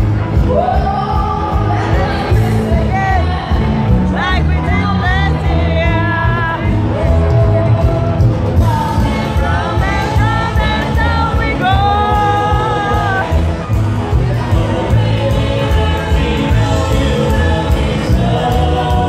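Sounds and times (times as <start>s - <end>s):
drums: 0.0s - 19.0s
electric bass: 0.0s - 19.0s
person singing: 0.3s - 19.0s.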